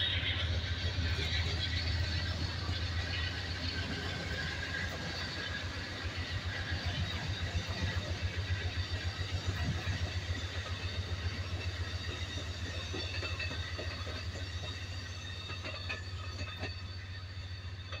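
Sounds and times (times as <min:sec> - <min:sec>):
rail clicks: 0:00.0 - 0:18.0
train wheels rumbling on rail: 0:00.0 - 0:18.0.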